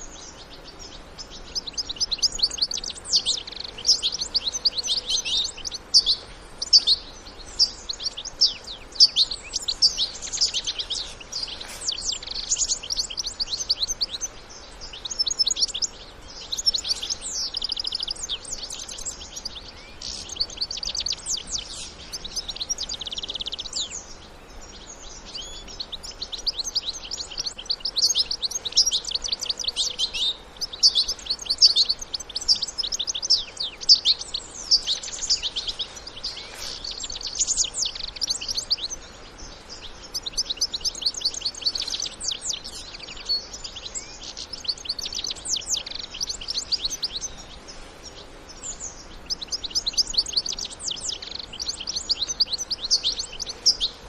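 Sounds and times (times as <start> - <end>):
finches twittering: 0.0 - 54.0.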